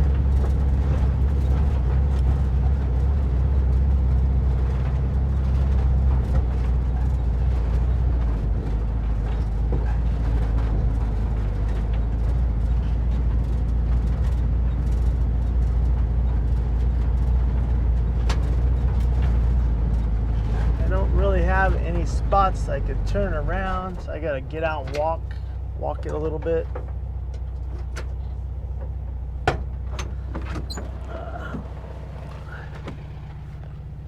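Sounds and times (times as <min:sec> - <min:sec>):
engine running at low speed: 0:00.0 - 0:34.0
knocks and rattles of vehicle body: 0:00.0 - 0:34.0.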